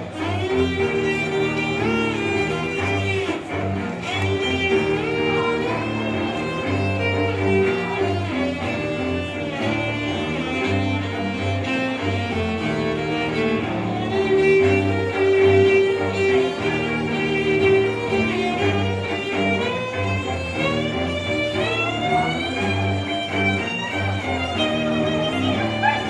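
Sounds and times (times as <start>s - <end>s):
cello duet: 0.0s - 26.0s.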